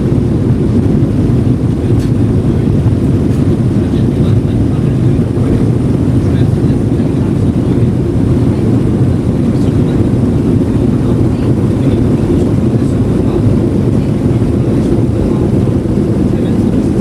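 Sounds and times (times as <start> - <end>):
air rushing along fuselage: 0.0 - 17.0
jet engines at climb power: 0.0 - 17.0.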